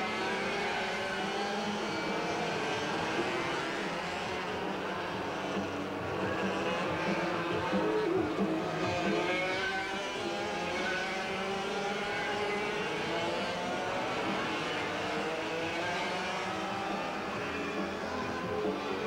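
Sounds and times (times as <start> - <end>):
racing kart engines passing: 0.0 - 19.0.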